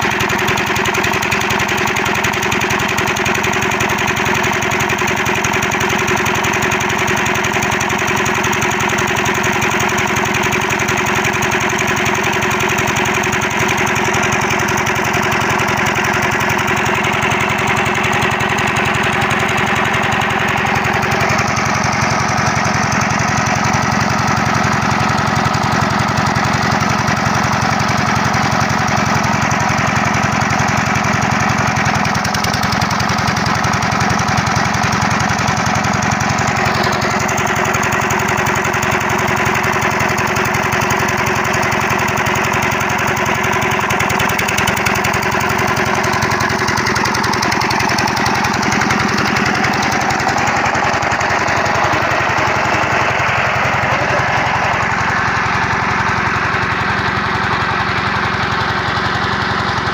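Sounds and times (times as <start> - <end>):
diesel engine knocking: 0.0 - 59.9.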